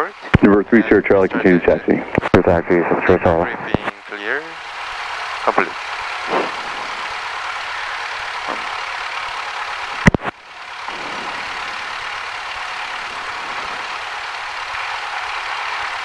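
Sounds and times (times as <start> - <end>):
aircraft engine droning: 0.0 - 16.0.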